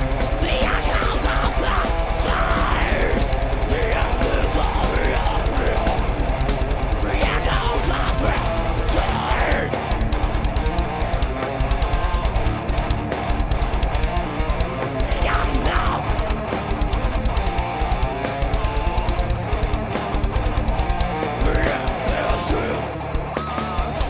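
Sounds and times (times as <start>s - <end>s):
distorted electric guitar: 0.0s - 24.0s
fast drumming on drum kit: 0.0s - 24.0s.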